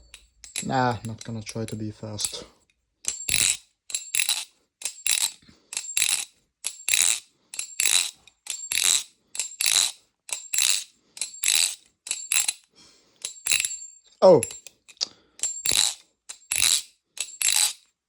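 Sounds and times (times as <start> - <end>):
butterfly knife clacking and rattling: 0.0 - 13.8, 14.4 - 17.9.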